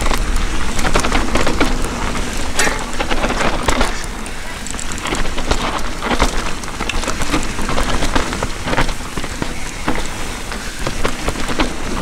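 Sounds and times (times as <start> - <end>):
bike rattling over bumps: 0.0 - 12.0
tyre and wind rush: 0.0 - 12.0.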